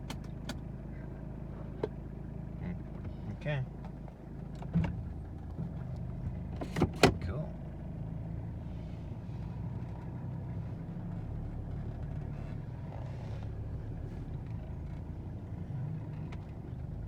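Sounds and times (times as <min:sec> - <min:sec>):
diesel engine idling: 0:00.0 - 0:06.6, 0:07.2 - 0:17.0.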